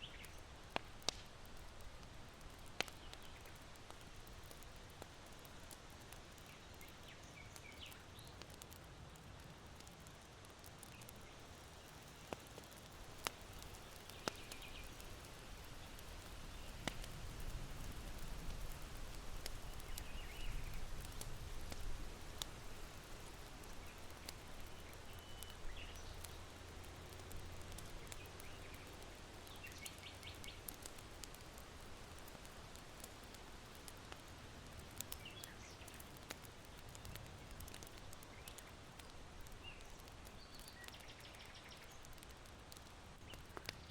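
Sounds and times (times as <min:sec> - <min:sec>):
small birds chirping: 0:00.0 - 0:01.1, 0:02.4 - 0:08.8, 0:09.4 - 0:32.3, 0:34.7 - 0:43.9
charcoal crackling and popping: 0:00.0 - 0:43.9.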